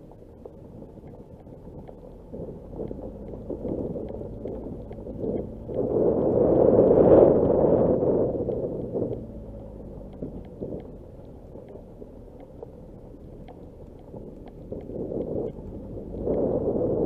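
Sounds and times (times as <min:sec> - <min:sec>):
engine and tyres on gravel: 0:00.0 - 0:17.0
faint clicks: 0:00.0 - 0:17.0.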